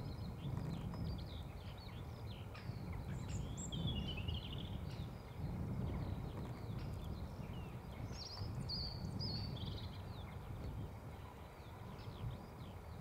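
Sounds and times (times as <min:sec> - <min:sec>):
small birds chirping: 0:00.0 - 0:13.0
wind rumble on microphone: 0:00.0 - 0:13.0.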